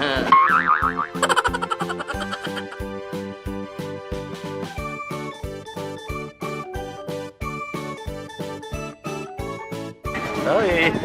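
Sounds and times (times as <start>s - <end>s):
light playful music: 0.0s - 11.0s.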